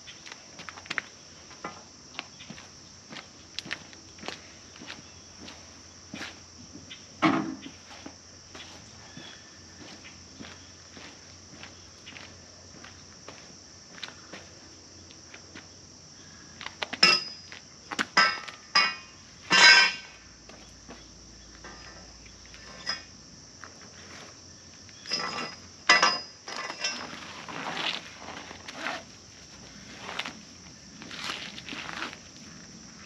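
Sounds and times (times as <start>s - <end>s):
high insect drone: 0.0s - 33.0s.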